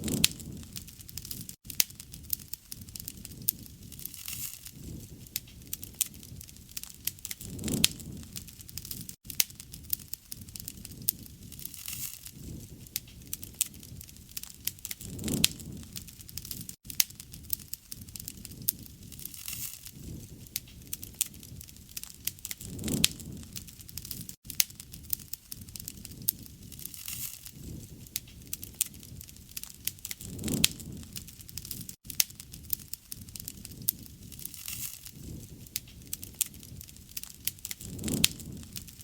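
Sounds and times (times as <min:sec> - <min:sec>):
bonfire crackling and popping: 0:00.0 - 0:39.0
flame rushing: 0:00.0 - 0:39.0.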